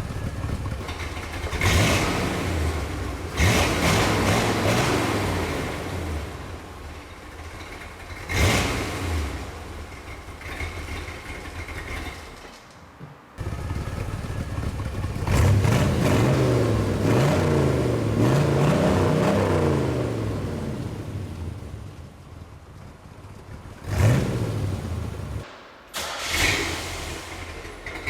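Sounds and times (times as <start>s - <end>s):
car engine revving: 0.0s - 12.1s, 13.4s - 22.0s, 23.6s - 28.0s.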